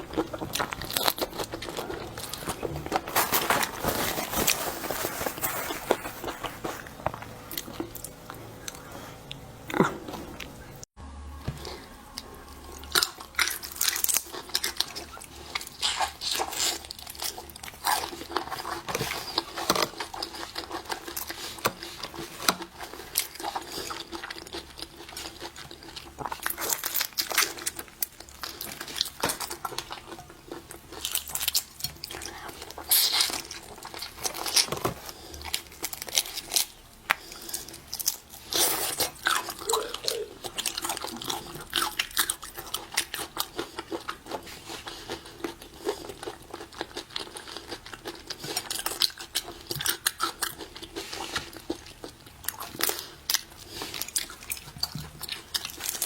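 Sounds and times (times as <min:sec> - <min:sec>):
chewing and crunching: 0:00.0 - 0:10.9, 0:11.6 - 0:56.0.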